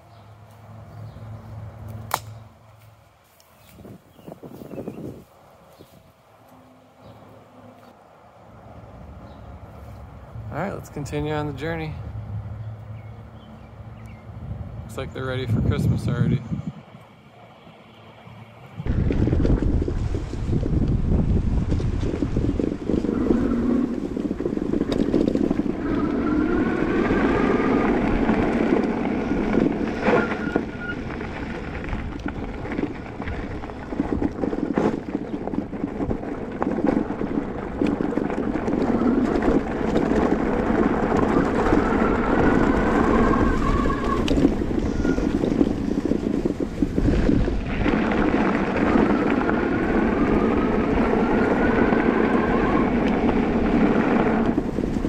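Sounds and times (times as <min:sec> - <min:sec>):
road noise: 0:00.0 - 0:55.0
wind buffeting microphone: 0:03.5 - 0:06.3, 0:08.5 - 0:55.0.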